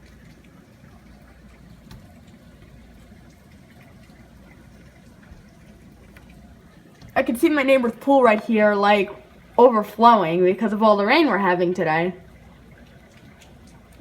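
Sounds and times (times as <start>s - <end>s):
light drip ticks: 0.0s - 9.6s, 11.7s - 14.0s.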